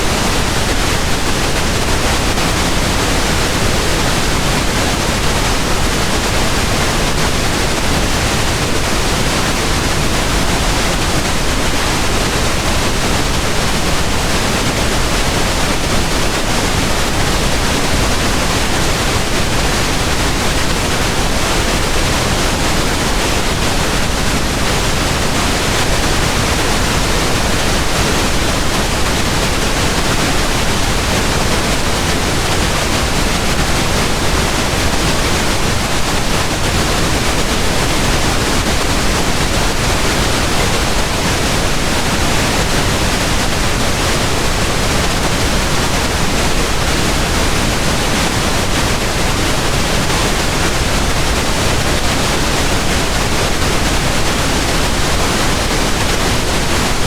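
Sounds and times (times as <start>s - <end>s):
pink noise: 0.0s - 57.0s.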